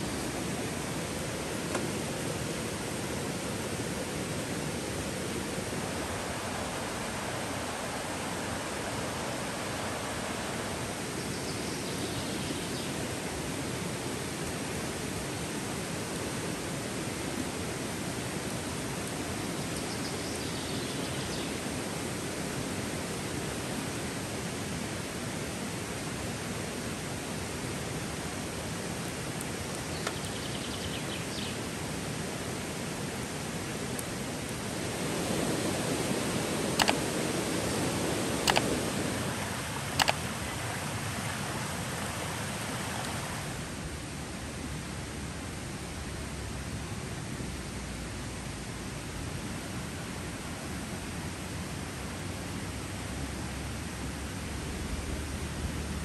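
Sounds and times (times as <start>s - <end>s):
shallow river rushing: 0.0s - 56.0s.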